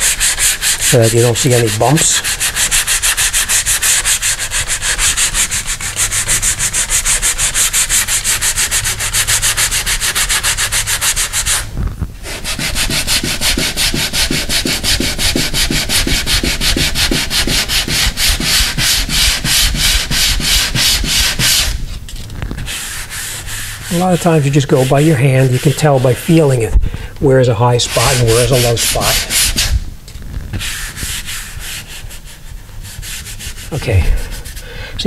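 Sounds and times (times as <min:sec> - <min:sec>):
sandpaper rubbing on filler: 0:00.0 - 0:22.0, 0:22.6 - 0:26.7, 0:27.4 - 0:29.8, 0:30.5 - 0:34.7.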